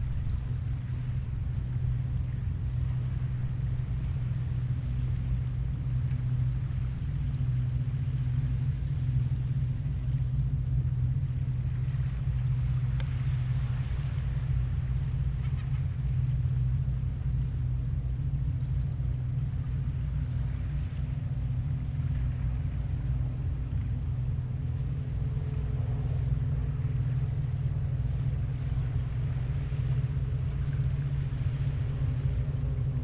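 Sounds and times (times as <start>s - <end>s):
gentle ocean surf rumble: 0.0s - 33.0s.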